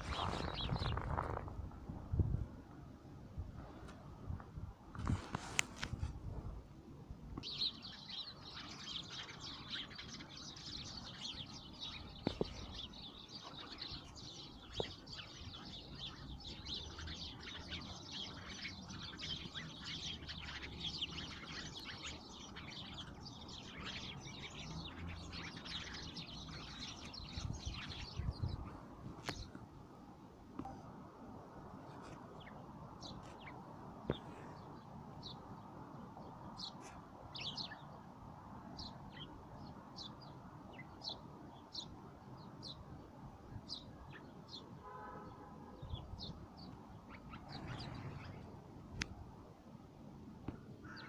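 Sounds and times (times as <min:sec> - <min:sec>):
sparrows chirping: 0:00.0 - 0:01.5, 0:07.4 - 0:29.6, 0:30.6 - 0:49.5, 0:50.4 - 0:51.0.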